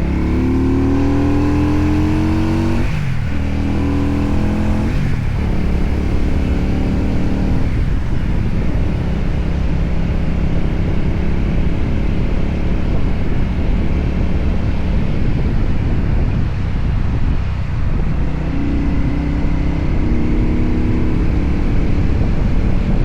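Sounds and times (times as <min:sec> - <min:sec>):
heavy wind noise: 0:00.0 - 0:23.0
motorcycle engine running: 0:00.0 - 0:23.0.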